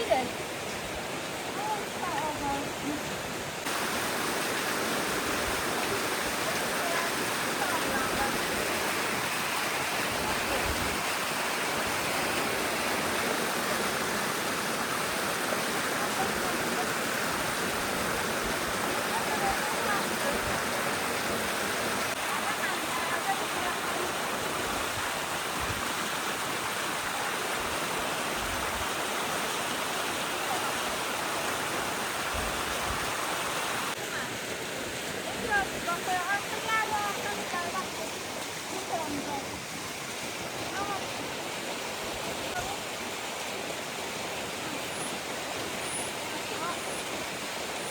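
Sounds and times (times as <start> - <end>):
rush of flowing water: 0.0 - 47.9.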